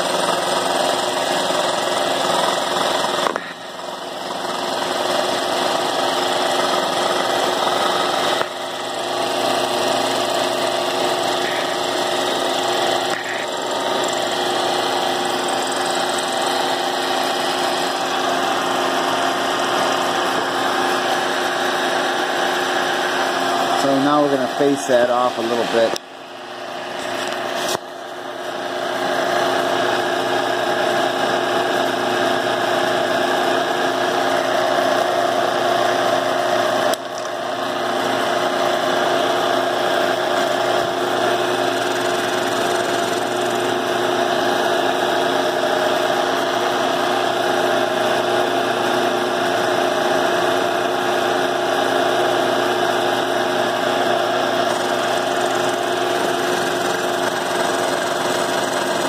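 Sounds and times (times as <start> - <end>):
power cutting tool running: 0.0 - 59.0.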